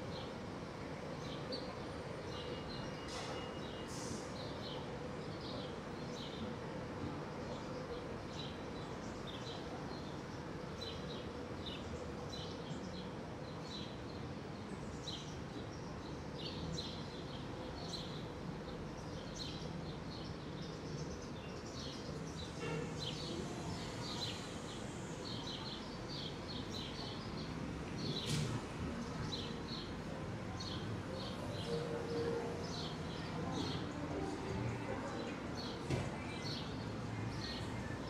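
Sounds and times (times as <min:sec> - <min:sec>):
city traffic hum: 0:00.0 - 0:38.0.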